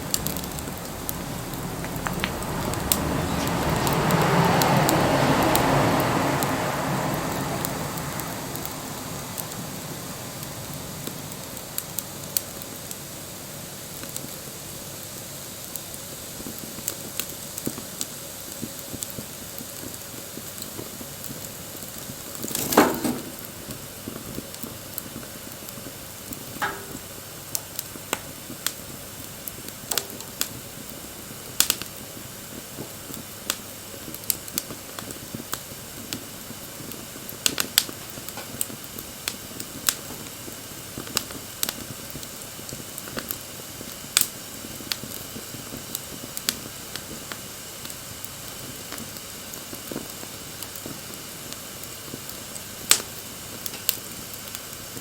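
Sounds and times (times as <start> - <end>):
fire crackles and pops: 0.0 - 55.0
wood fire hissing: 0.0 - 55.0.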